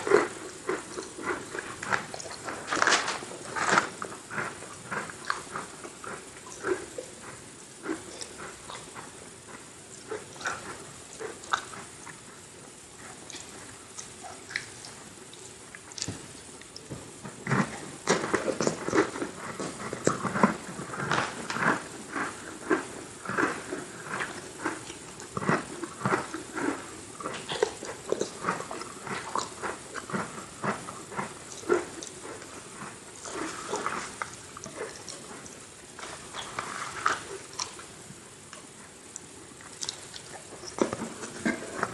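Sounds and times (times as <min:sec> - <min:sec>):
crunchy cookie chewing: 0:00.0 - 0:41.9.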